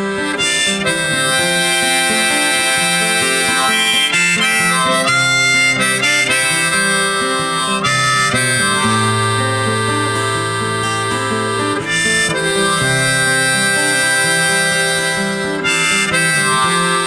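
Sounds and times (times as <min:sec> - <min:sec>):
instrumental music: 0:00.0 - 0:17.0.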